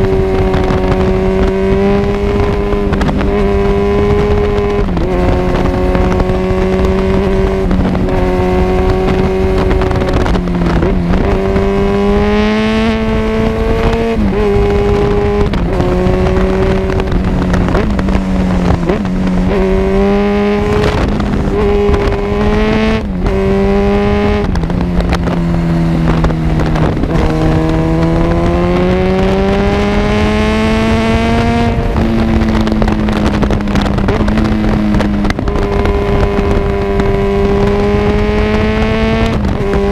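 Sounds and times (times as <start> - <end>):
exhaust cracks: 0.0 - 39.9
motorcycle engine shifting gears: 0.0 - 39.9.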